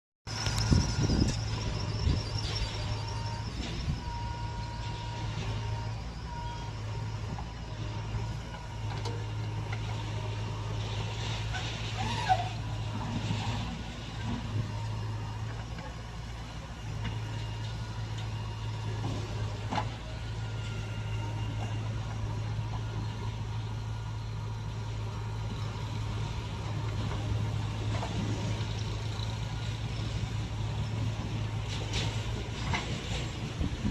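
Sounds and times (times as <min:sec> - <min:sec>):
backhoe diesel engine running: 0:00.3 - 0:33.9.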